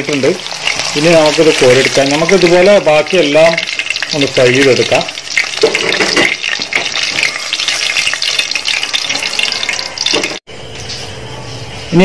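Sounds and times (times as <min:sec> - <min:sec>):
chicken sizzling in hot oil: 0:00.0 - 0:10.4
metal strainer stirring: 0:00.1 - 0:10.4.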